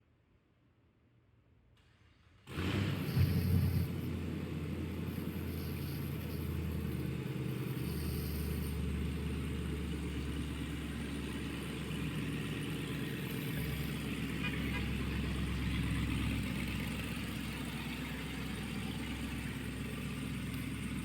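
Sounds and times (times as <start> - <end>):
car engine fast idle: 2.4 - 21.0.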